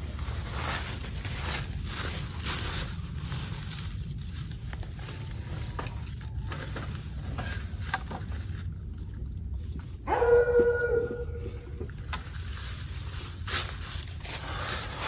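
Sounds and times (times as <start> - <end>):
leaf litter rustling: 0.0 - 15.0.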